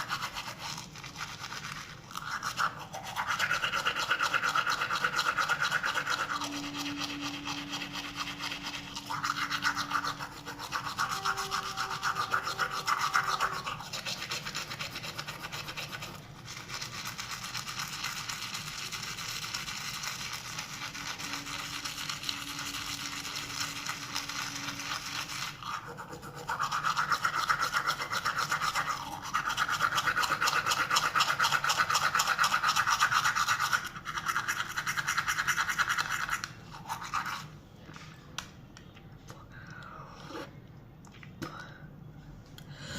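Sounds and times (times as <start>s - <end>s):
toothbrush scrubbing teeth: 0.0s - 37.6s.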